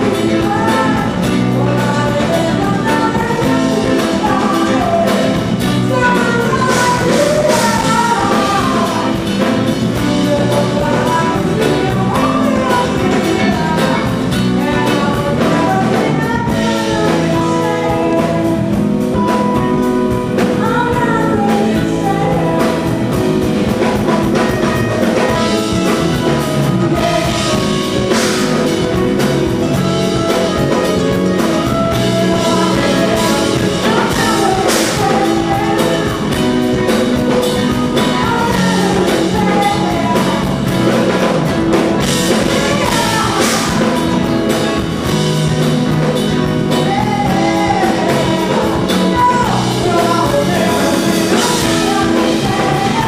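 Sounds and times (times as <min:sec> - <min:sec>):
bass guitar: 0:00.0 - 0:53.0
electric guitar: 0:00.0 - 0:53.0
steady drum beat: 0:00.0 - 0:53.0
woman singing into a microphone: 0:00.0 - 0:53.0.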